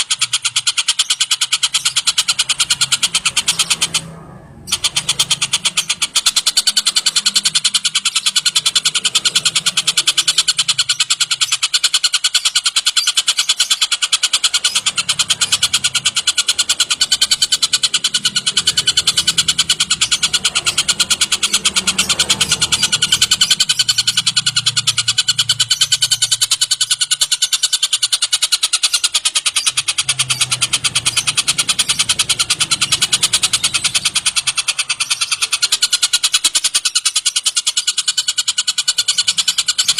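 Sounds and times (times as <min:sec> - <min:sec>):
bird calling in rapid trill: 0:00.0 - 0:39.9.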